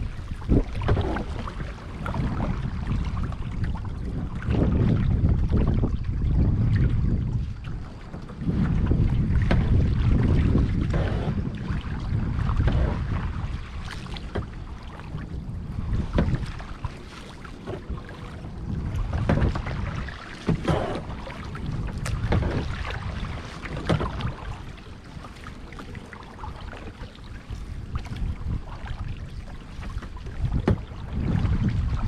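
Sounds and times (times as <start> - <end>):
paddle splashing in water: 0.0 - 32.0
wind buffeting microphone: 0.0 - 32.0.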